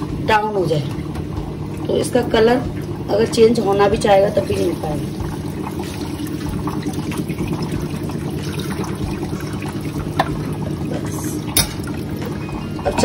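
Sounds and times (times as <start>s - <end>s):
water pouring into a steel bowl: 1.8s - 13.0s.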